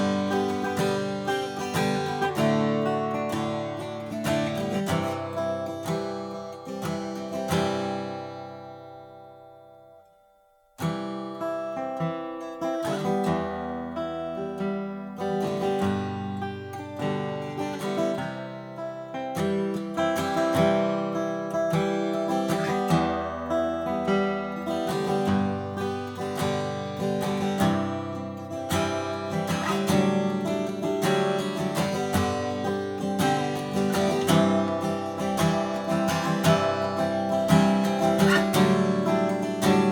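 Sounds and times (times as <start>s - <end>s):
acoustic guitar strummed chords: 0.0s - 39.9s.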